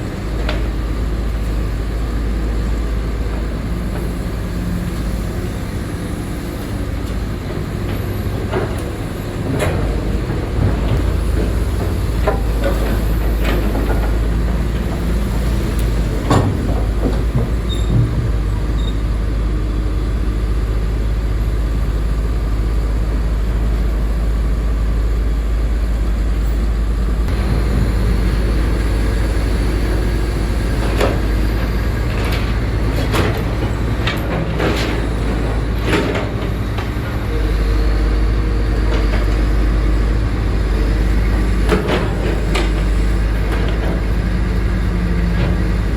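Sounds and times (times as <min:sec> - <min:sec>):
diesel engine rumbling: 0:00.0 - 0:45.9.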